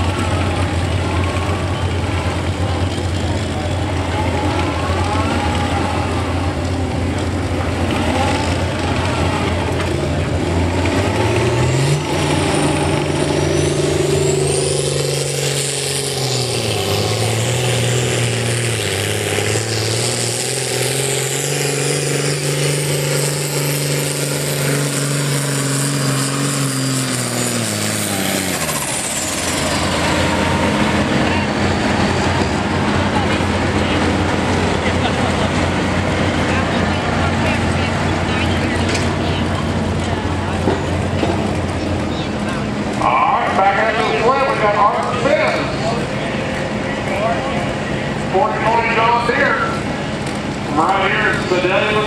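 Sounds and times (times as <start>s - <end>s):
diesel tractor engine at full throttle: 0.0s - 52.0s.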